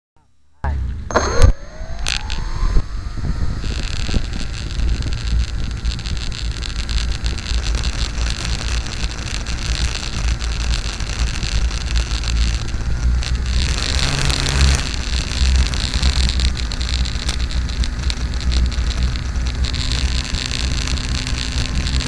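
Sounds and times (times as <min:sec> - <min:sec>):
broad rushing noise: 0:00.6 - 0:22.0
wind rumble on microphone: 0:00.6 - 0:22.0
model aircraft motor whine: 0:00.8 - 0:22.0.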